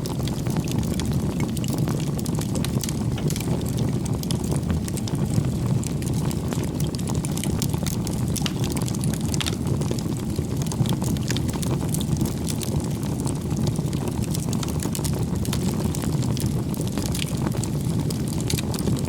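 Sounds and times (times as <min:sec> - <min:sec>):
campfire flames rushing: 0:00.0 - 0:19.0
firewood crackling and popping: 0:00.0 - 0:19.0.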